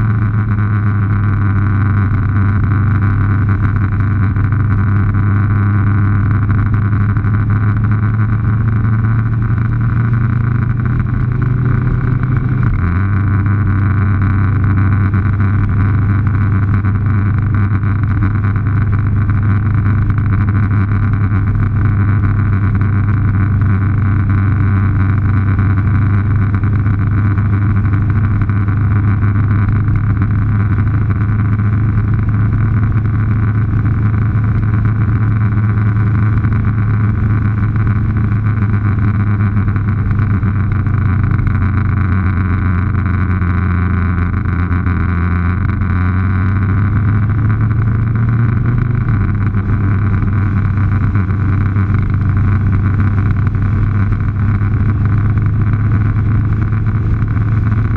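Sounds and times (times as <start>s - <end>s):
motorcycle engine drone: 0.0s - 57.9s
tyre noise on road: 0.0s - 57.9s.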